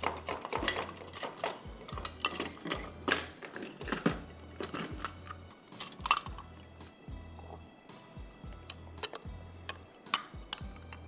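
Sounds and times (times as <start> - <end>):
utensils clicking on glass bowl: 0.0 - 6.6, 8.4 - 11.0.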